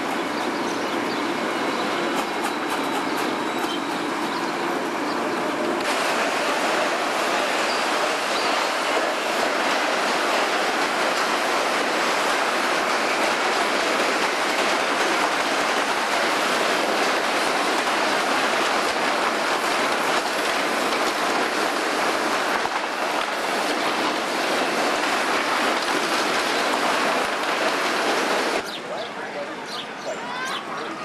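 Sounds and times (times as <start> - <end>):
ride cars clattering on wooden track: 5.8 - 31.0.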